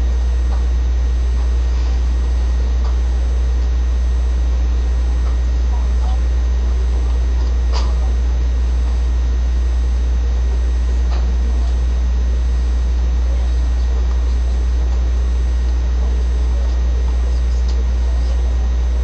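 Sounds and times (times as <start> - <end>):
loud low hum: 0.0 - 19.0.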